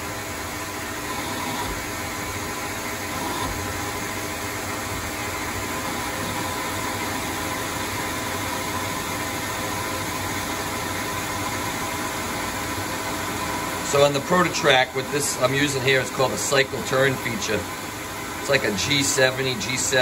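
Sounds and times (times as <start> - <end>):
lathe whirring hum: 0.0 - 20.0.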